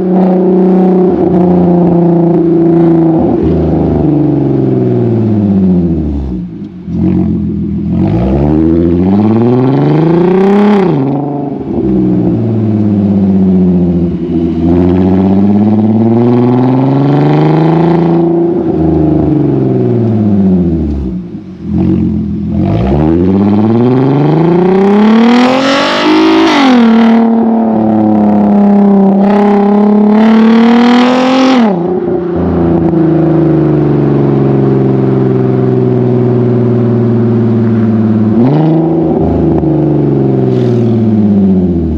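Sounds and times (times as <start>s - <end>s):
car exhaust revving: 0.0s - 41.9s.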